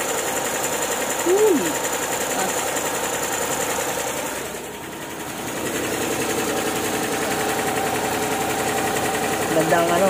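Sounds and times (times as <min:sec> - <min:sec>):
fast mechanical ticking: 0:00.0 - 0:10.0
small engine running: 0:00.0 - 0:10.0.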